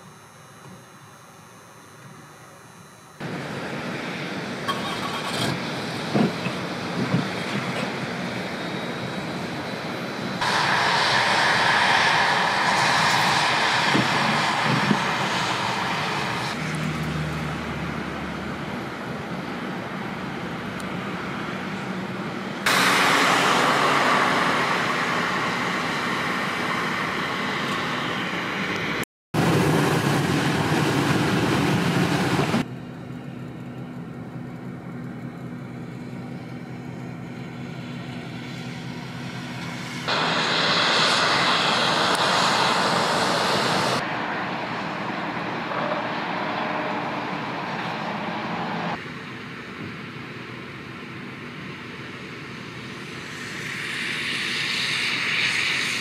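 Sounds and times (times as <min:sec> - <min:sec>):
highway traffic noise: 0:03.2 - 0:56.0.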